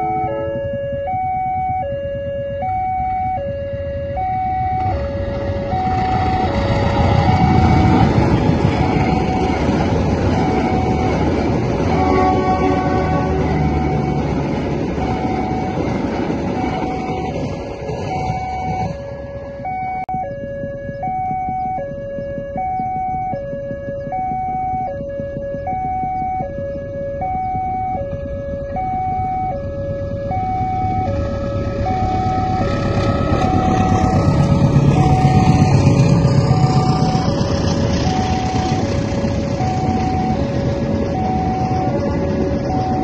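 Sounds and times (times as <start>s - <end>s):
level crossing alarm two tones: 0.0s - 43.0s
passing train rumble: 0.0s - 43.0s.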